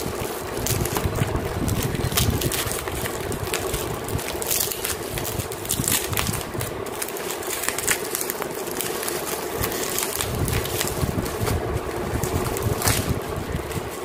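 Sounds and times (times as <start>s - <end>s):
bubble wrap crinkling: 0.0s - 14.0s
steady hum: 0.0s - 14.0s.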